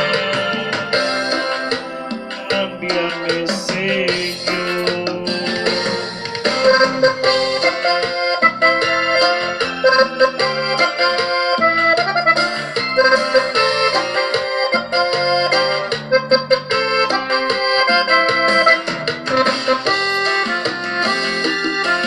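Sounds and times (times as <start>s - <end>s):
accordion melody: 0.0s - 22.0s
rhythm backing: 0.0s - 22.0s.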